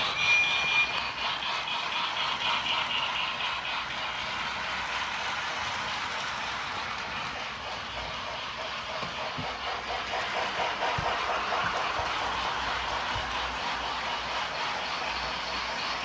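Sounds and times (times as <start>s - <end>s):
toy train motor hum: 0.0s - 16.0s
wheels clicking over rails: 0.0s - 16.0s.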